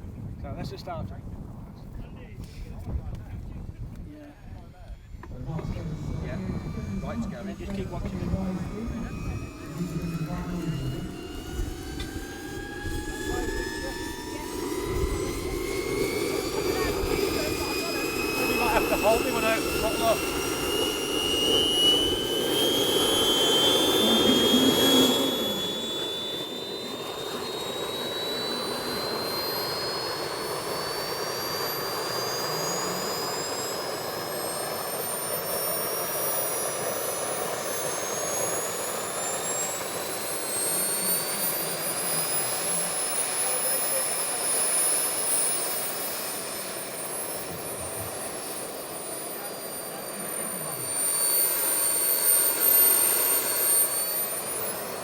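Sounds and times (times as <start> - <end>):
jet turbines whining: 2.0 - 55.0
exhaust rush: 5.1 - 55.0.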